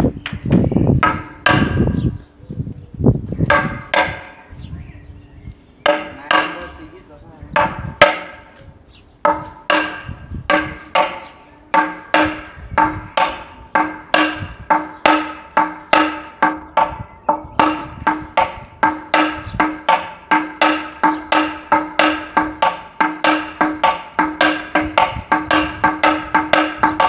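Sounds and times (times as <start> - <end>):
wooden board struck with mallet: 1.0 - 2.1, 3.4 - 4.4, 5.8 - 6.8, 7.6 - 8.5, 9.2 - 27.0.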